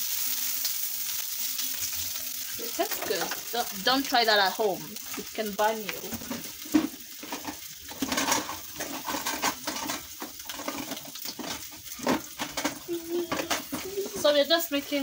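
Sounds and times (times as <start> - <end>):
oil crackling and popping: 0.0 - 15.0
sausages sizzling in oil: 0.0 - 15.0.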